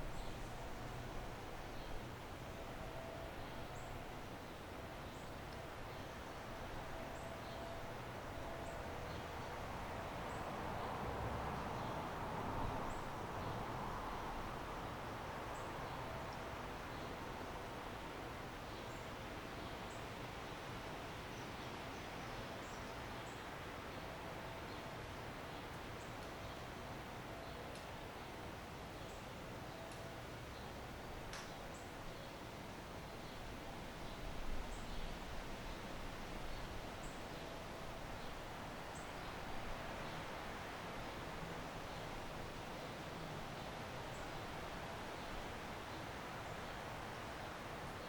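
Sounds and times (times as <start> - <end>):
wind hiss: 0.0 - 27.2, 30.4 - 48.0
outdoor background noise: 0.0 - 48.0.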